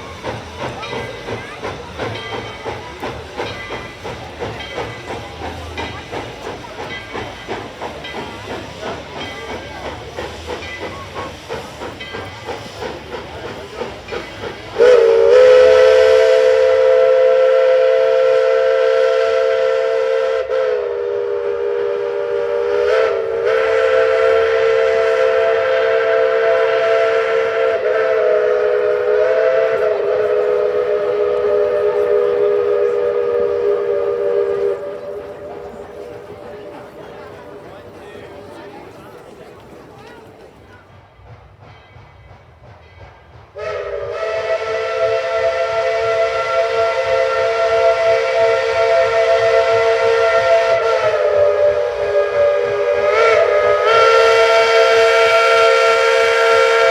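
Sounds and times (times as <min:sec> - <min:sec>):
locomotive chime whistle: 0:00.0 - 0:40.8, 0:41.6 - 0:56.9
steam locomotive hissing exhaust: 0:00.0 - 0:56.9.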